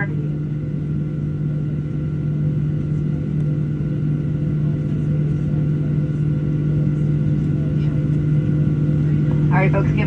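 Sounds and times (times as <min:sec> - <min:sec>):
aircraft cabin hum: 0:00.0 - 0:10.0.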